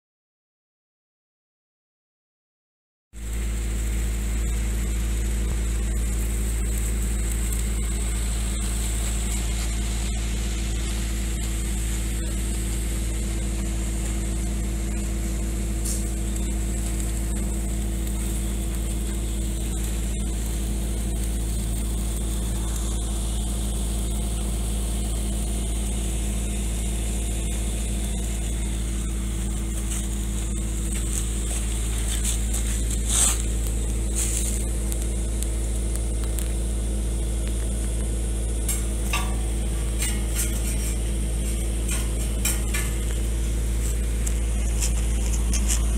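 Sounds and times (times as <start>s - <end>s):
held low tones: 3.2s - 45.9s
low machine hum: 3.2s - 45.9s.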